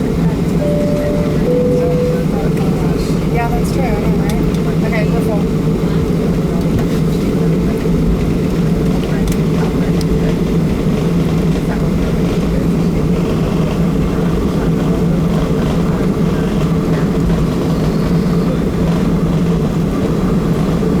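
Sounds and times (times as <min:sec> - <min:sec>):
airplane cabin engine drone: 0:00.6 - 0:20.8.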